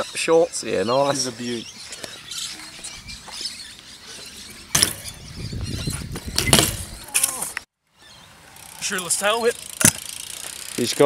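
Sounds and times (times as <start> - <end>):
bike rolling on concrete: 1.0 - 11.0.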